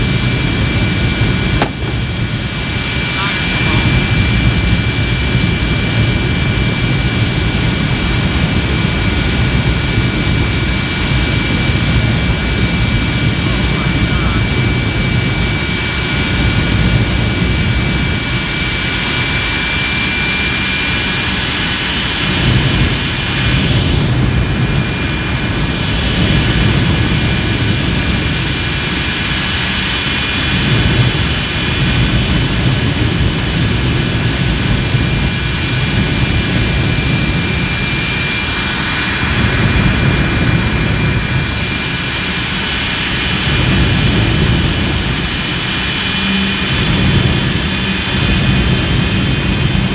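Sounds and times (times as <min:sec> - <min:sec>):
jet engine running: 0:00.0 - 0:49.9.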